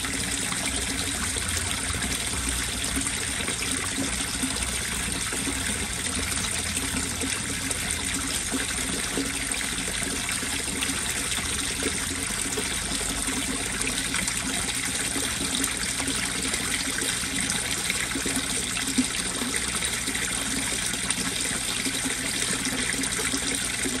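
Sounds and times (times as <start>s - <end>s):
water trickling into a pond: 0.0s - 24.0s.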